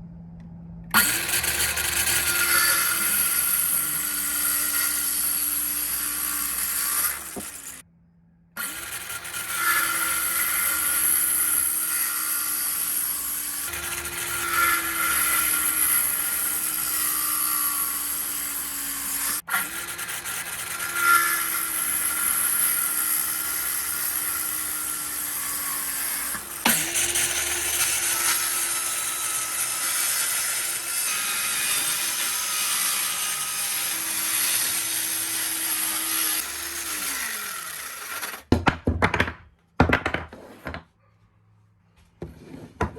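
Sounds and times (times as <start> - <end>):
power tool cutting wood: 0.9 - 7.9, 8.6 - 38.5.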